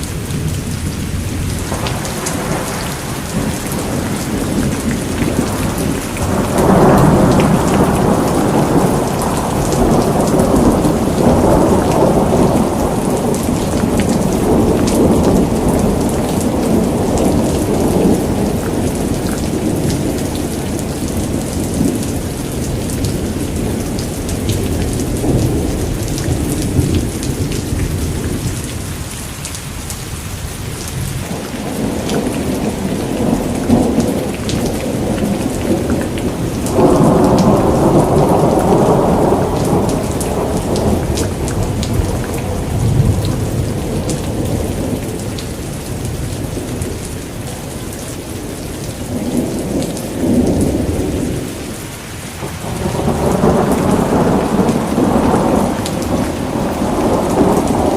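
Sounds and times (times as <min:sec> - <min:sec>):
rolling thunder: 0:00.0 - 0:29.2, 0:30.9 - 0:51.8, 0:52.4 - 0:57.9
heavy rain: 0:00.0 - 0:57.9.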